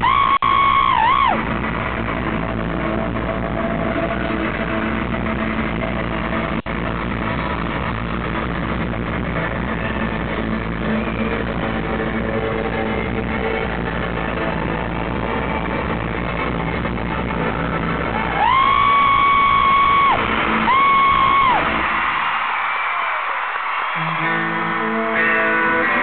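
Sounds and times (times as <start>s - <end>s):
live rock band over pa: 0.0s - 22.3s, 23.8s - 26.0s.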